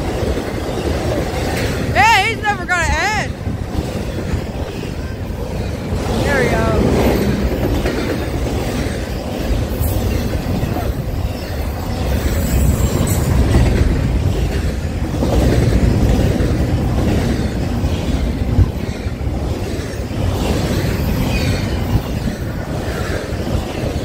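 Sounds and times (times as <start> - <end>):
freight train rumbling and rattling: 0.0 - 24.0.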